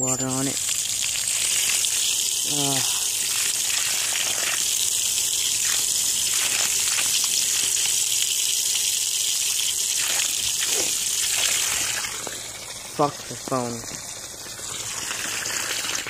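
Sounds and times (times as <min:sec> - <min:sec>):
tap water running: 0:00.1 - 0:16.0.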